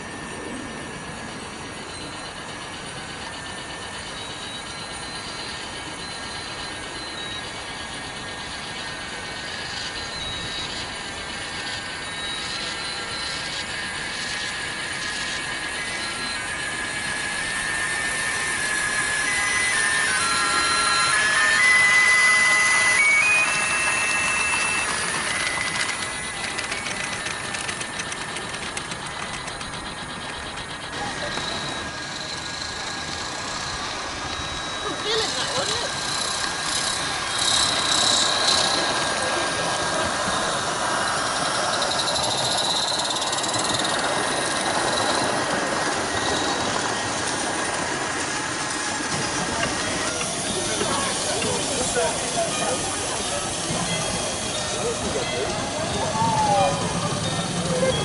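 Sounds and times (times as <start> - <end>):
high steady tone: 0.0 - 58.0
model train wheels rattling: 1.0 - 58.0.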